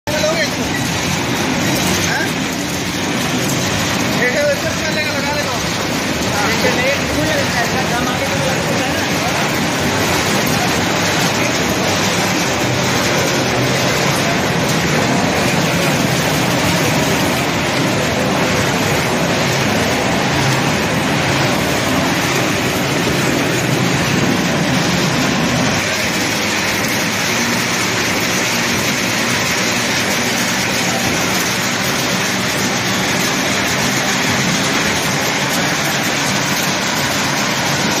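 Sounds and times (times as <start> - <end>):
loud mechanical machine noise: 0.0 - 38.0.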